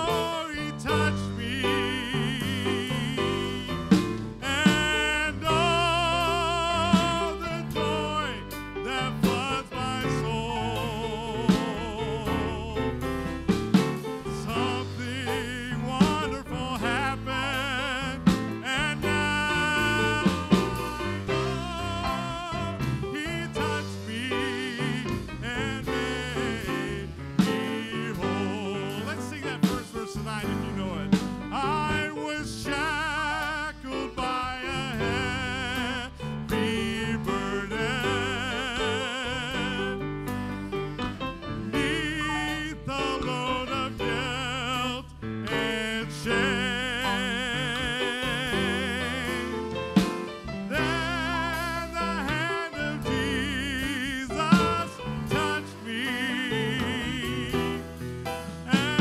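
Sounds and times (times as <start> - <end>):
live gospel band: 0.0 - 59.0.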